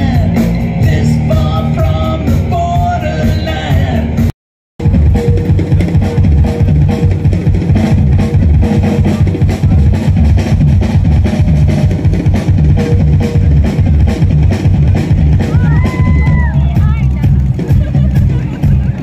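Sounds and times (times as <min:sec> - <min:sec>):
bass and guitar: 0:00.0 - 0:19.0
drum kit beat: 0:00.0 - 0:19.0.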